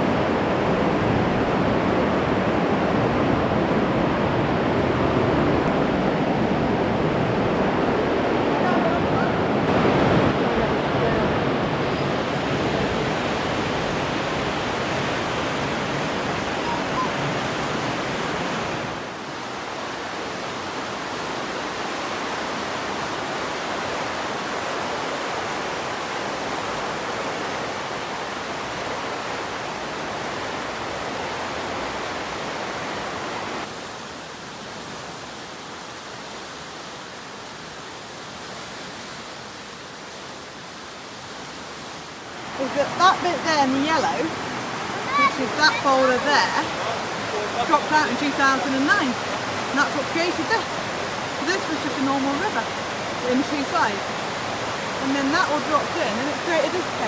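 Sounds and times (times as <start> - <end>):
river rushing through gorge: 0.0 - 57.0.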